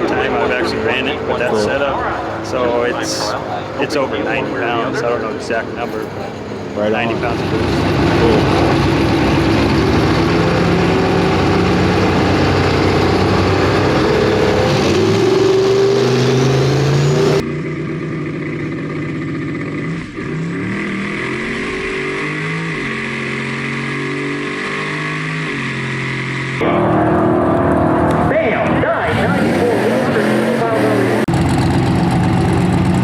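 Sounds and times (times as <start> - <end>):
truck engine accelerating hard: 0.0 - 33.0.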